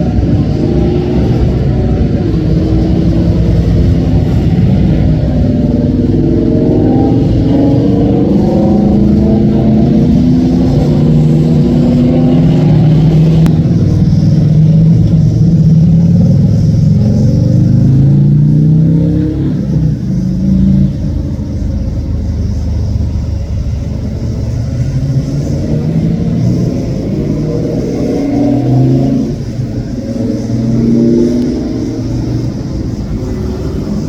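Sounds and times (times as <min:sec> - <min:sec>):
cars driving past: 0:00.0 - 0:34.0.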